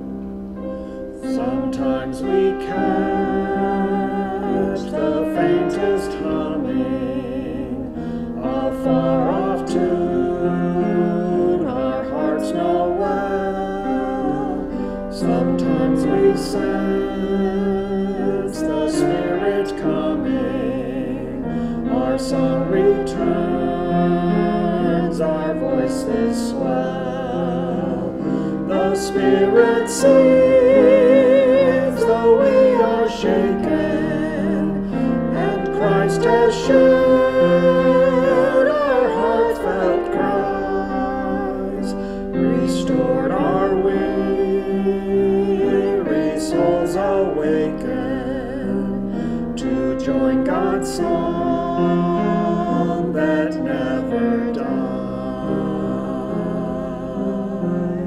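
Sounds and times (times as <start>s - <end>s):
piano: 0.0s - 58.0s
person singing with vibrato: 0.9s - 58.0s.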